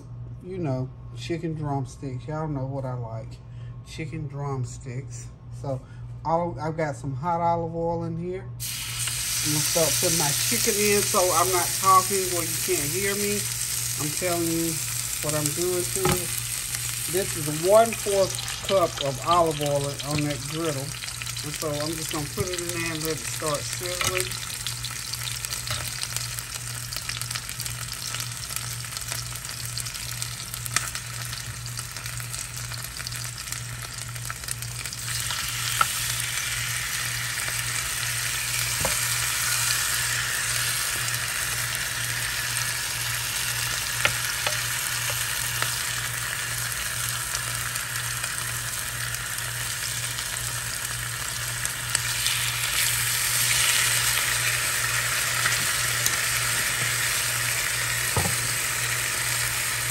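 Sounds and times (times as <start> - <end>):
chicken sizzling in oil: 8.6 - 59.9.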